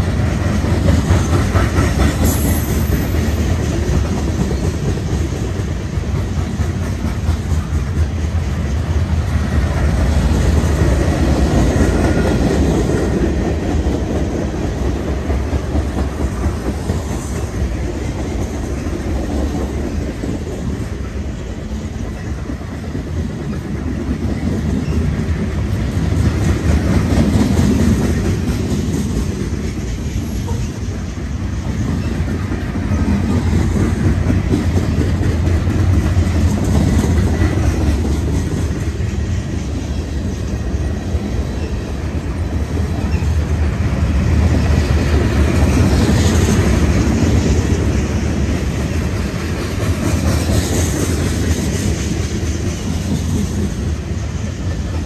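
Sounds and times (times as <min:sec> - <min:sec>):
low rolling noise of freight cars: 0:00.0 - 0:55.0
train wheels clacking over rail joints: 0:00.0 - 0:55.0.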